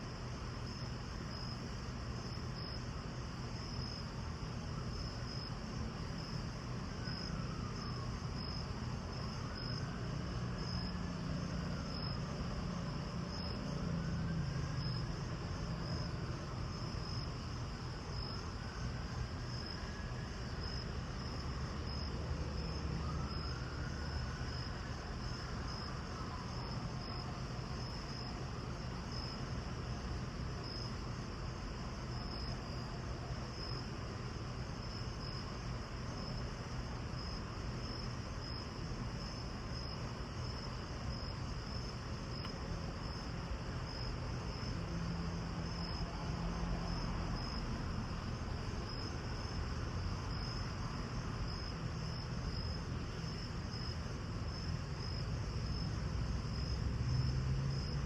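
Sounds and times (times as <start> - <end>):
cricket chirping: 0.0 - 58.0
low rumble and hiss: 0.0 - 58.0.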